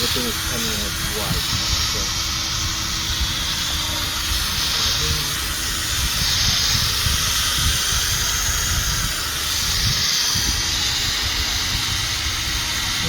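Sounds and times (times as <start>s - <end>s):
electric drill motor whir: 0.0s - 13.0s.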